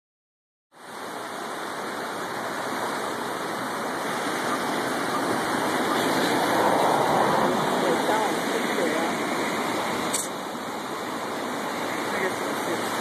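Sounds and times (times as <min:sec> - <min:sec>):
floodwater rushing: 0:00.8 - 0:13.0.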